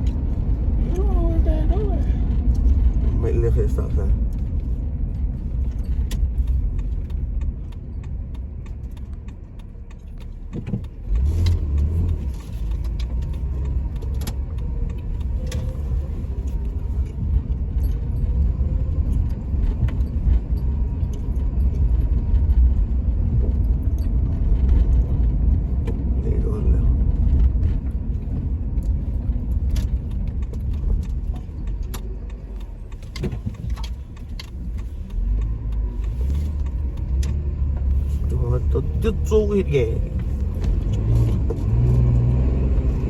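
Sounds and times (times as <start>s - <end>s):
small clicks and rattles: 0.0s - 43.0s
truck engine and road noise: 0.0s - 43.0s.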